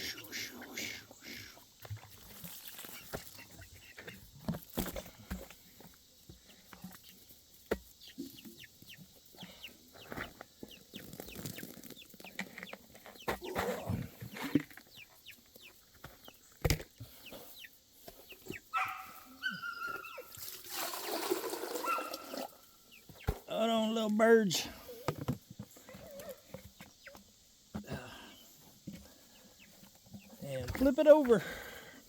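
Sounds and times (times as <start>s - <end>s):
chickens clucking and peeping: 0.0s - 20.6s, 21.2s - 32.0s.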